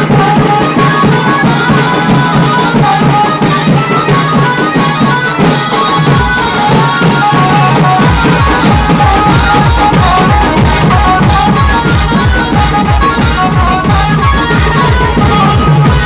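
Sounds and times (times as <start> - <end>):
fast drumming: 0.0 - 16.0
keyboard melody: 0.0 - 16.0.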